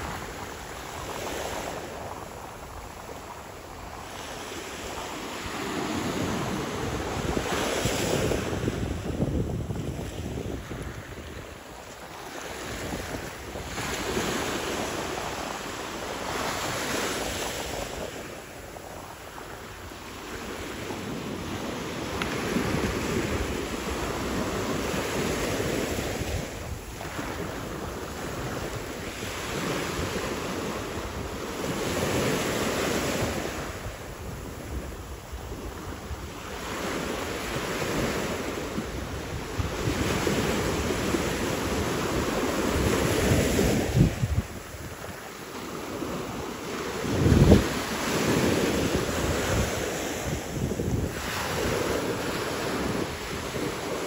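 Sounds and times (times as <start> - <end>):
small waves breaking on shore: 0.0 - 54.0
wind rumbling on microphone: 0.0 - 54.0.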